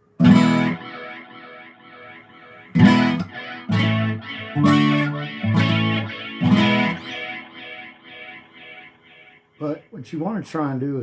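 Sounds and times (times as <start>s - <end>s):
electric guitar chords with delay: 0.0s - 9.4s.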